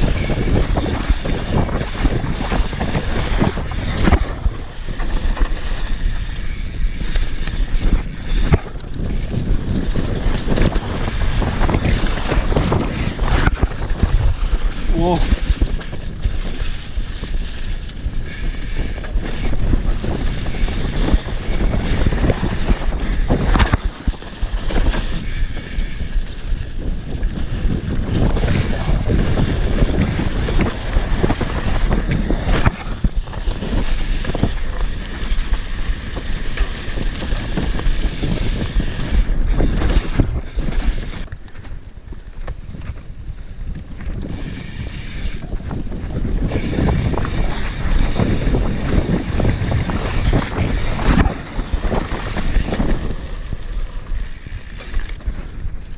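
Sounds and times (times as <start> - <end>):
bike tyres rumbling on dirt trail: 0.0 - 55.9
wind buffeting microphone: 0.0 - 55.9.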